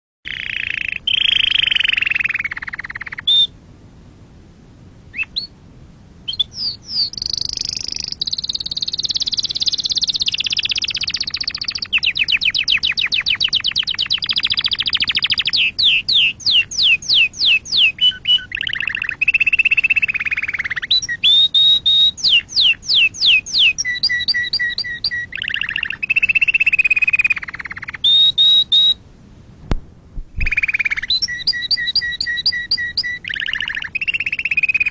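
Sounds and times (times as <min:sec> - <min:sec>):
canary singing: 0:00.3 - 0:03.6, 0:05.1 - 0:05.6, 0:06.2 - 0:29.0, 0:30.4 - 0:34.9.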